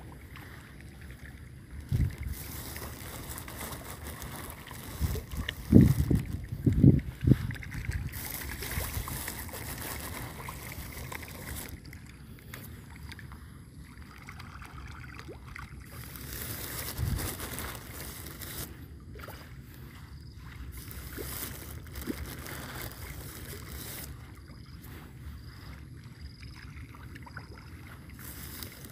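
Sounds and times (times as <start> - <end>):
wind rumbling on microphone: 1.5 - 14.9, 15.8 - 28.9.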